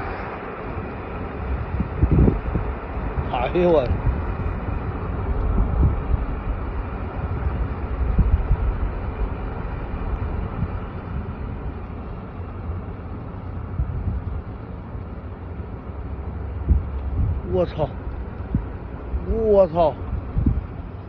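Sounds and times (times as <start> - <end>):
wind and road noise in car: 0.0 - 21.0.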